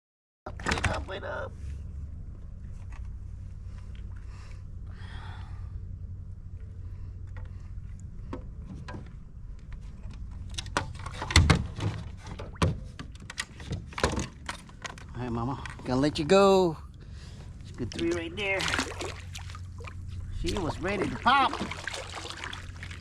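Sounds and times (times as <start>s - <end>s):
steady low rumble: 1.0s - 13.0s, 14.3s - 23.0s.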